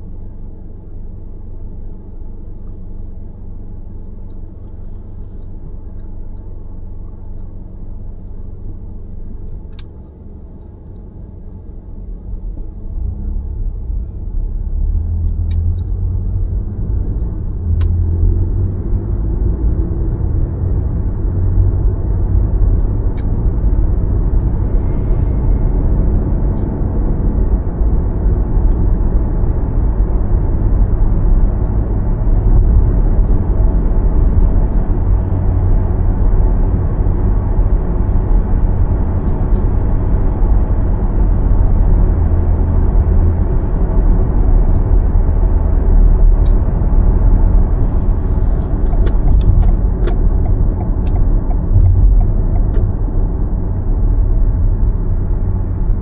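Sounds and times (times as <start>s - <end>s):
road and tyre rumble: 0.0s - 56.0s.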